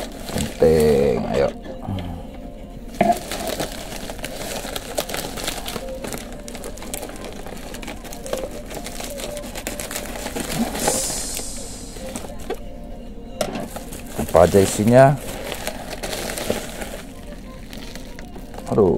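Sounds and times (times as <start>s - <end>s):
package crinkling and rustling: 0.0s - 1.4s, 3.0s - 12.6s, 13.6s - 18.9s.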